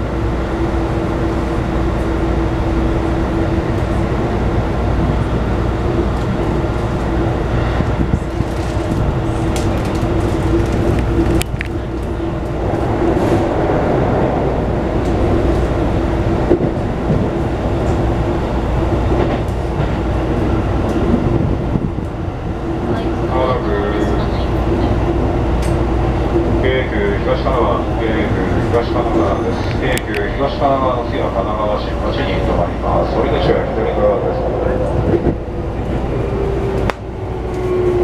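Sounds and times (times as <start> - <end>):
train motor hum: 0.0 - 38.0
train wheels rumbling on rail: 0.0 - 38.0.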